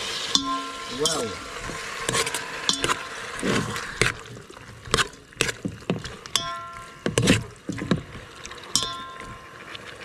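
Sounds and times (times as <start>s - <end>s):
wet squelching of mixing: 0.8s - 10.0s.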